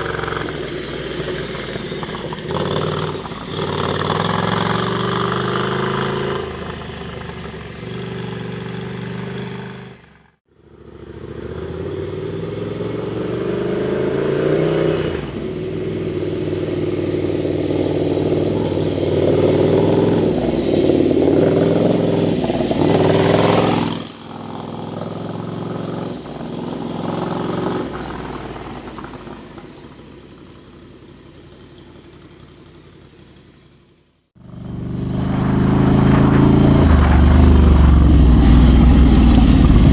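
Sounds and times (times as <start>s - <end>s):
motorcycle engine revving past: 0.0s - 30.5s, 34.4s - 39.9s.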